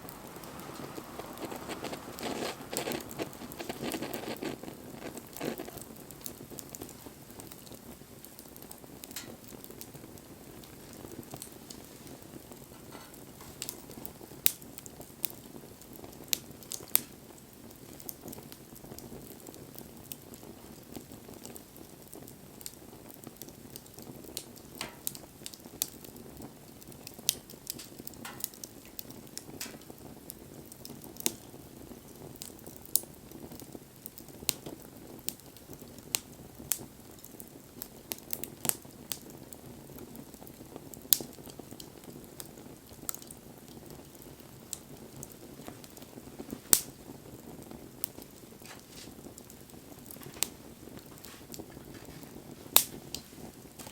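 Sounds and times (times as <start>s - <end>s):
low rush of flame: 0.0s - 53.9s
wood fire crackling and popping: 0.0s - 53.9s.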